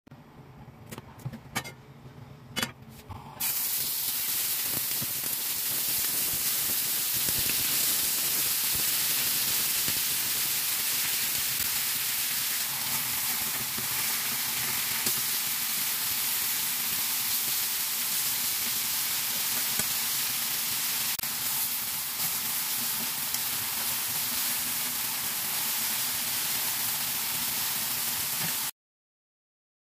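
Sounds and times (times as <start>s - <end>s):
cutlets sizzling in hot oil: 3.4s - 28.7s.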